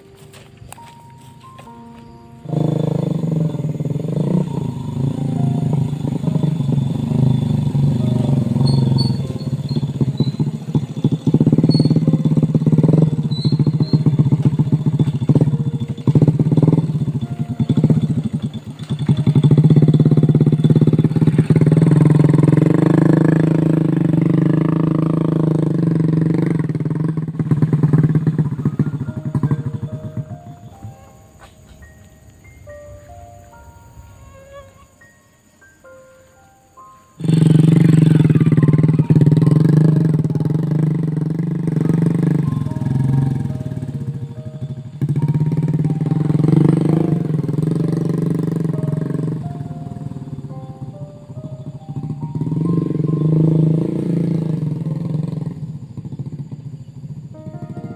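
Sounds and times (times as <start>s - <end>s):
small motorcycle engine running: 0.0s - 31.3s, 37.1s - 57.9s.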